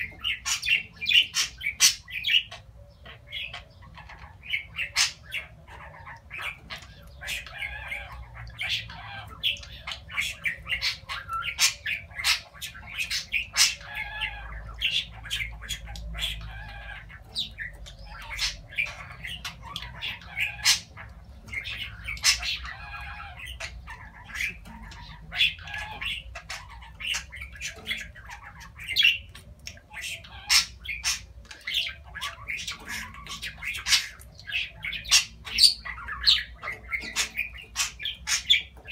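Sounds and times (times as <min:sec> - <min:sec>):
budgerigar warbling and chattering: 0:00.0 - 0:38.9.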